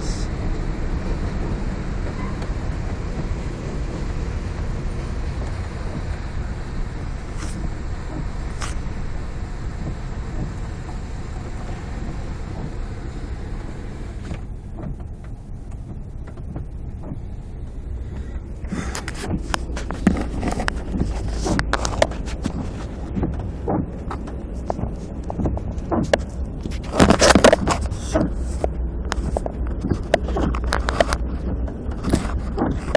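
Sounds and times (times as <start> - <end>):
low vehicle rumble: 0.0 - 32.9
irregular clicks and crackles: 2.1 - 32.9.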